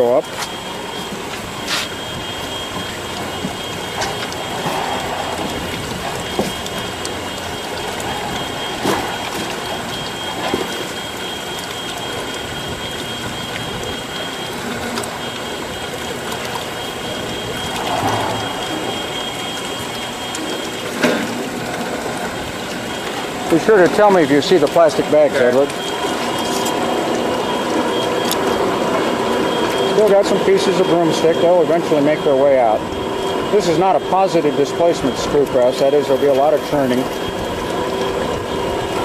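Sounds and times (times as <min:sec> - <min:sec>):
high whine: 0:00.0 - 0:39.0.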